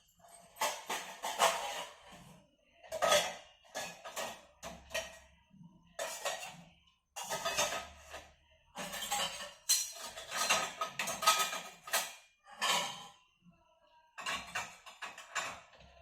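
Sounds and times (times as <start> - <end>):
dishes and cutlery clattering: 0.1 - 13.2, 14.2 - 16.0.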